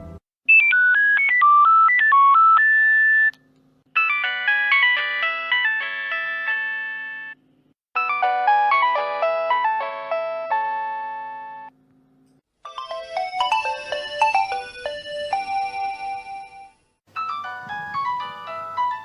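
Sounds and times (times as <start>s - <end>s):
mobile phone ringtone melodies: 0.5s - 3.3s, 4.0s - 7.4s, 8.0s - 11.6s, 12.6s - 19.0s.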